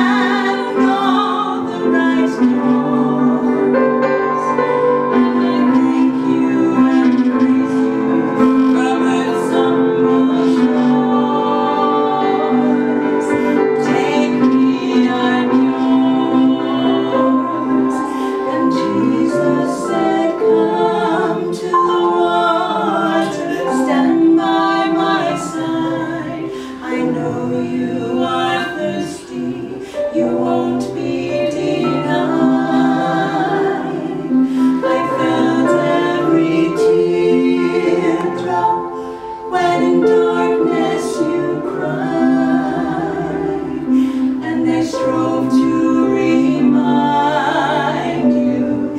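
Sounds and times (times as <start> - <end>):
women singing together: 0.0 - 48.9.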